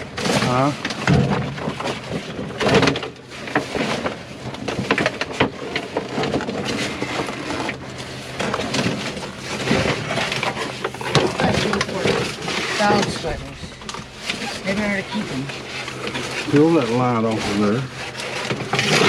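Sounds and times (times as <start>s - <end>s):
packaged goods rustling and knocking: 0.0s - 19.0s.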